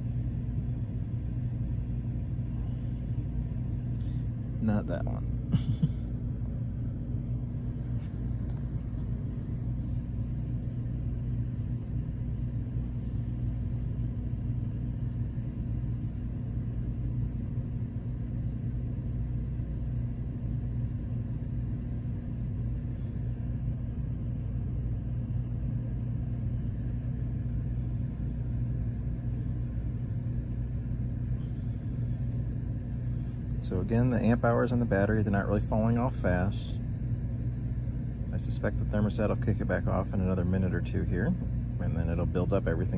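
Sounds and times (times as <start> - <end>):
air conditioner humming: 0.0 - 42.9.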